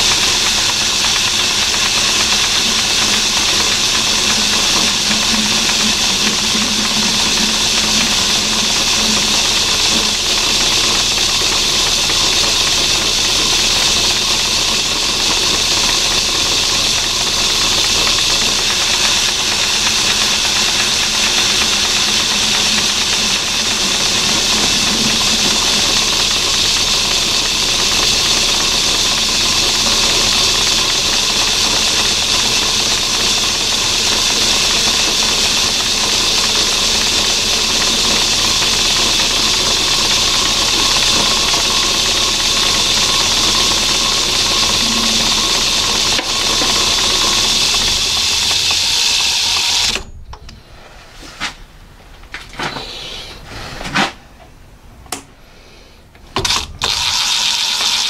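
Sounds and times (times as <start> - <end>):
lathe cutting hiss: 0.0 - 50.0, 55.6 - 58.0
lathe machine hum: 0.0 - 50.8, 54.3 - 58.0.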